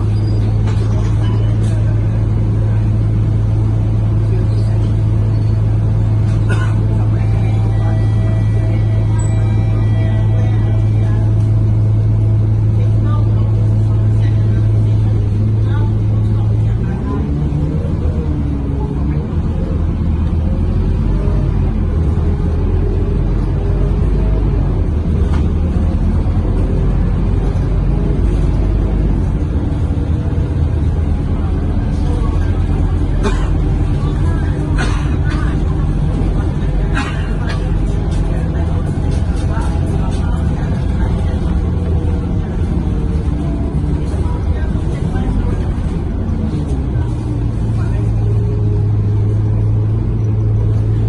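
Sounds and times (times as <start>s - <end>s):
bus engine droning: 0.0s - 51.0s
low road rumble: 0.0s - 51.0s.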